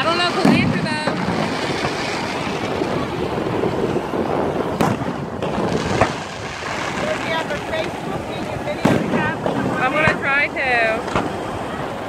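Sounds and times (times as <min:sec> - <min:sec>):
firework shells bursting: 0:00.0 - 0:11.6
steady background rush: 0:00.0 - 0:12.0.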